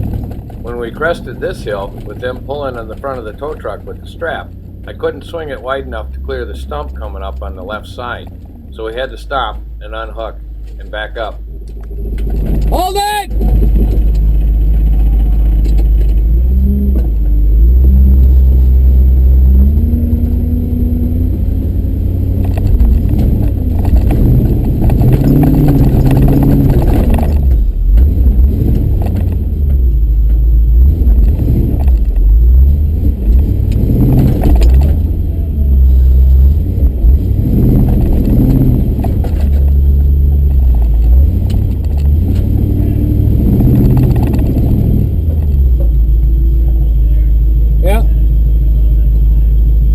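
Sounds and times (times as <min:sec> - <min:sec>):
truck engine maneuvering: 0:00.0 - 0:49.9.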